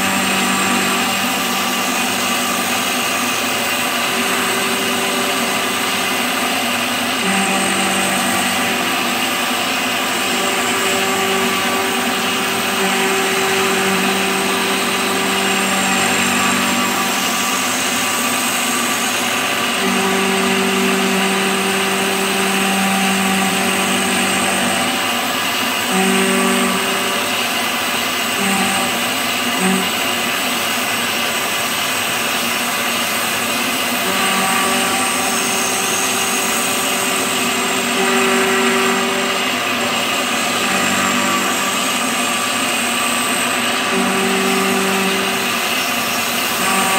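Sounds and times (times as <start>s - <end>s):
low machining tone: 0.0s - 46.9s
milling machine cutting metal: 0.0s - 46.9s.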